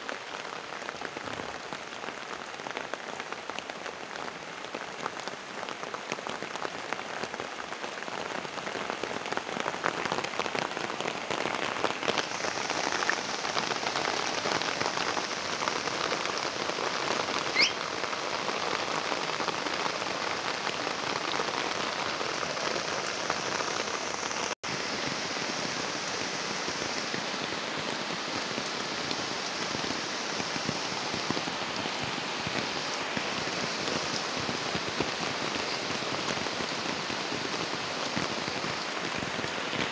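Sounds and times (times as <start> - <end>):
rain on foliage and water: 0.0 - 39.9.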